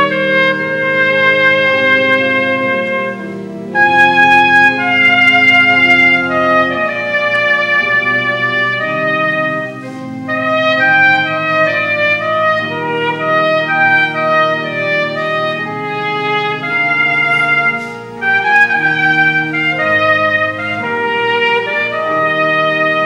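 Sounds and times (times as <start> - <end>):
low sustained accompaniment: 0.0 - 23.0
trumpet playing slow melody: 0.0 - 23.0.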